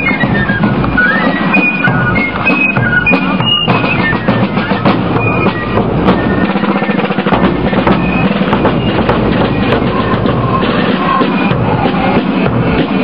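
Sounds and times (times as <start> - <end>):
field drums rolling: 0.0 - 13.0.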